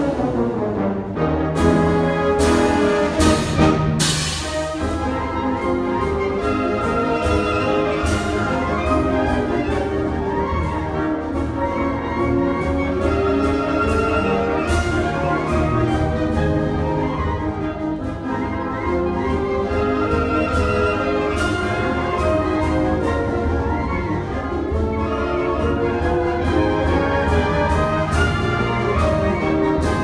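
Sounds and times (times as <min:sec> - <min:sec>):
concert band playing: 0:00.0 - 0:30.0.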